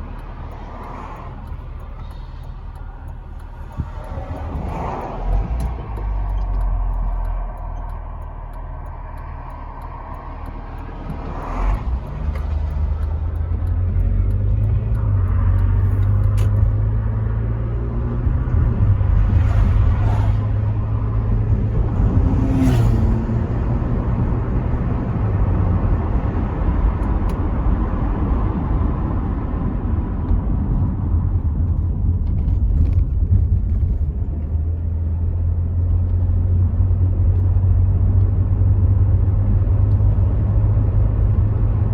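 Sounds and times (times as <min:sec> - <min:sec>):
engine and road drone: 0:00.0 - 0:41.9
wind noise through windows: 0:02.8 - 0:06.7, 0:10.6 - 0:41.9.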